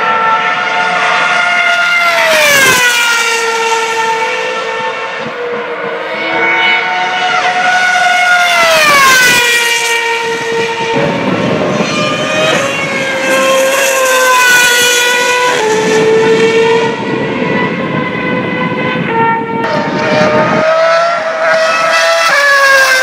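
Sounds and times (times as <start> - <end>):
racing car engines screaming: 0.0 - 23.0.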